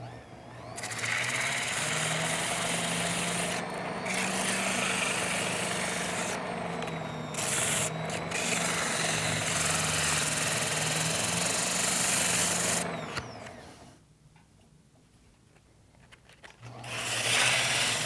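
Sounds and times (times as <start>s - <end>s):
lathe motor humming: 0.0s - 13.8s, 16.8s - 18.0s.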